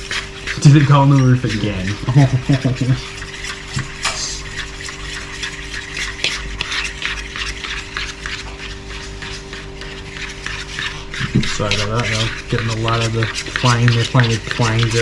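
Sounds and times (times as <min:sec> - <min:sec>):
utensil scraping bowl: 0:00.0 - 0:15.0.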